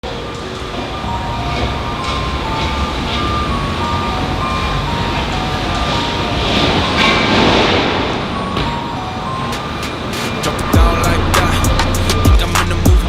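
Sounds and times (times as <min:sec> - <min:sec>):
car exhaust rumble: 0:00.0 - 0:13.0
melody of short high tones: 0:00.0 - 0:13.0.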